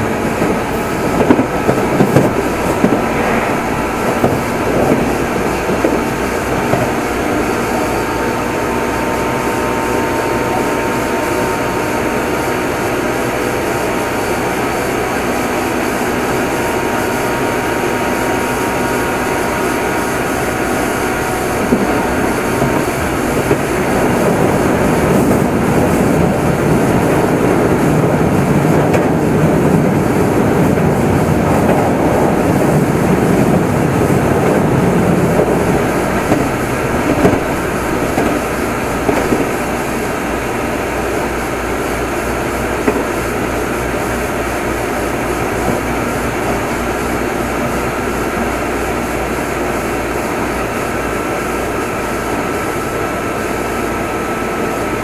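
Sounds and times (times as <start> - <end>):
electric train motor hum: 0.0 - 55.0
wheels rumbling on rails: 0.0 - 55.0.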